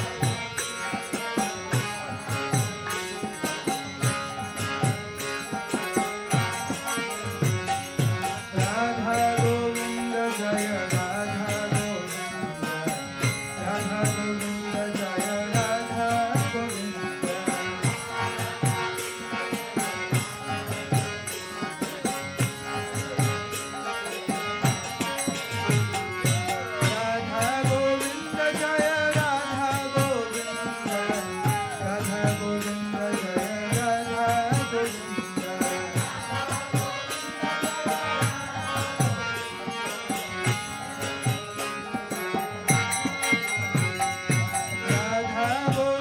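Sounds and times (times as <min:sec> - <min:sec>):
devotional chanting: 0:00.0 - 0:46.0.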